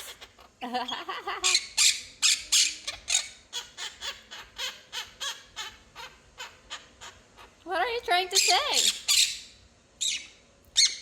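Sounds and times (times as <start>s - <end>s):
parrot squawking: 0.0s - 0.5s, 1.4s - 7.6s, 8.3s - 11.0s.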